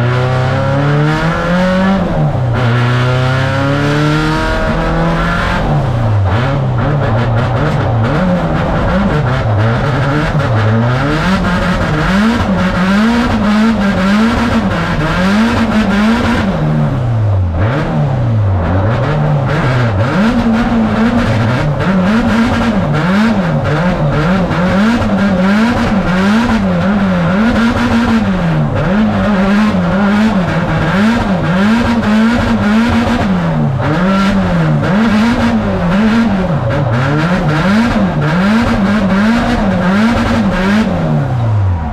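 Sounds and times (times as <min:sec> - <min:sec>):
car engine revving hard: 0:00.0 - 0:41.9.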